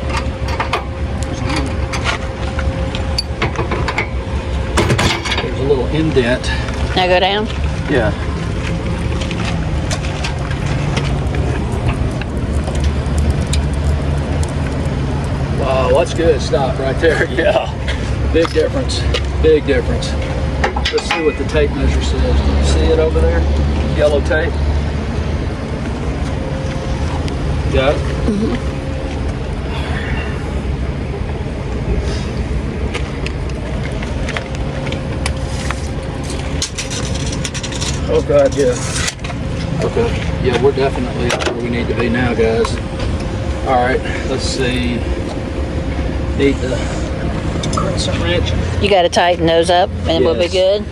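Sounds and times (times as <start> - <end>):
vehicle engine idling: 0.0 - 50.9.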